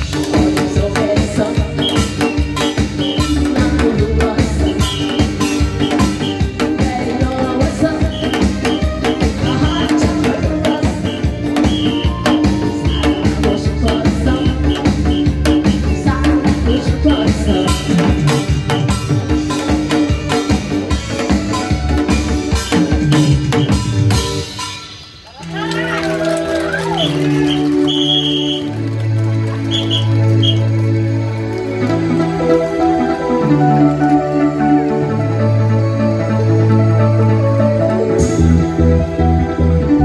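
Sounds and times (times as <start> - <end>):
lively instrumental music: 0.0 - 40.0.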